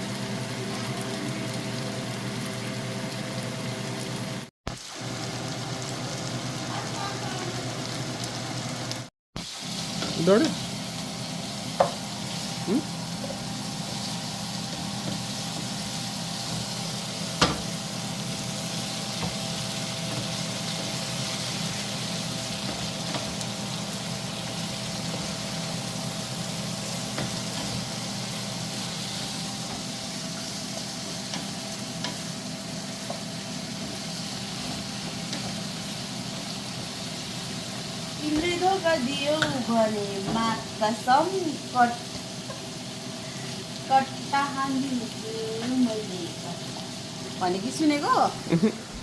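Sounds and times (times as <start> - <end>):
curry sizzling in a pan: 0.0 - 49.0.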